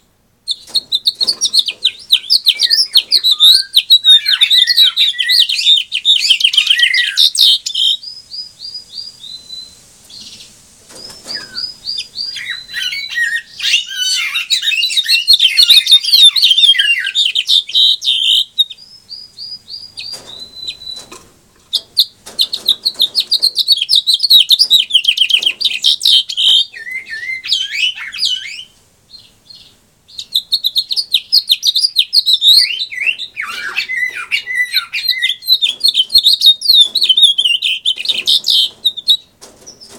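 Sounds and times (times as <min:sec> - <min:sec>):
finch singing warbling trills: 0:00.5 - 0:21.1, 0:21.8 - 0:39.9.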